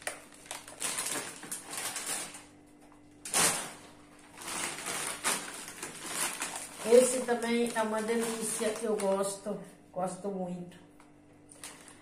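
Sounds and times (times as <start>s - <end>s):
plastic bags rustling: 0.0s - 9.5s, 11.5s - 12.0s.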